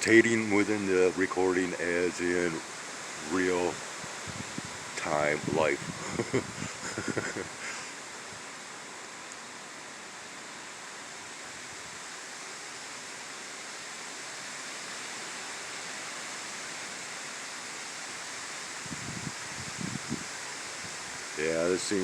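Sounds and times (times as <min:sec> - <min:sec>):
light rain falling: 0:00.0 - 0:22.0.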